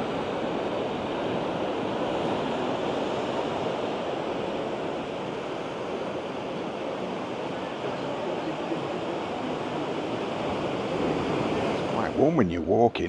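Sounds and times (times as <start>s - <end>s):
surf washing over rocks: 0.0s - 13.0s.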